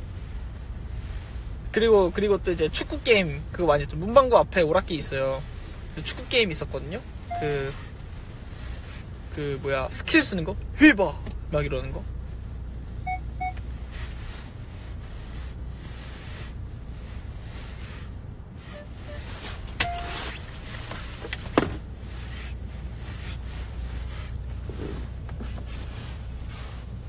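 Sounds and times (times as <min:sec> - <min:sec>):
car cabin rumble: 0:00.0 - 0:27.0.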